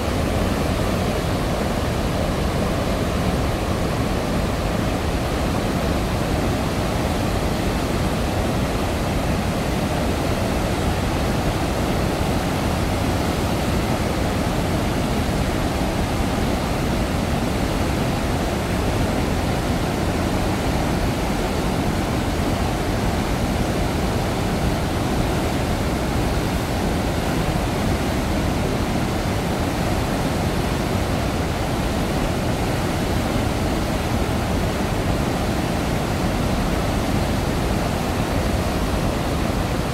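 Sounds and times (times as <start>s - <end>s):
roar of rushing water: 0.0s - 39.9s.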